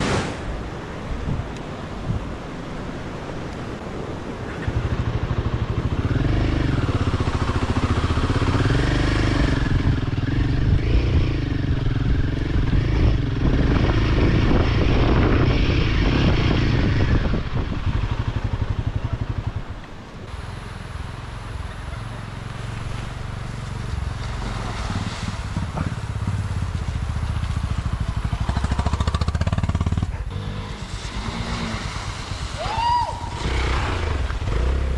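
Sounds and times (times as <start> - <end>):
motorcycle engine revving: 4.5 - 34.9.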